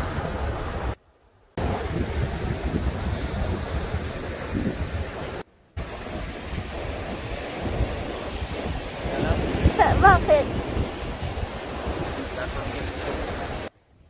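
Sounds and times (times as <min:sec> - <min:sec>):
surf on beach: 0:00.0 - 0:14.0
wind buffeting microphone: 0:01.6 - 0:14.0.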